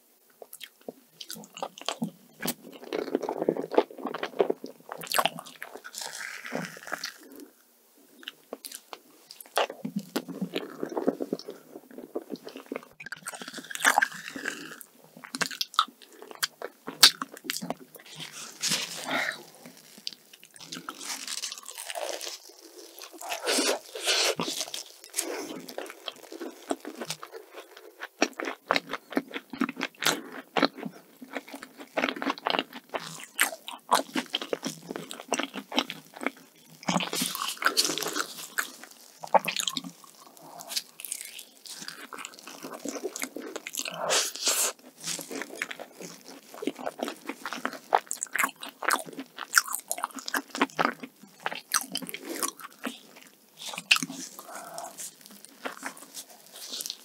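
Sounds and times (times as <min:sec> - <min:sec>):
chewing and biting: 0:00.5 - 0:07.4, 0:08.2 - 0:57.0
pastry crust crunching: 0:08.2 - 0:29.9, 0:31.3 - 0:57.0.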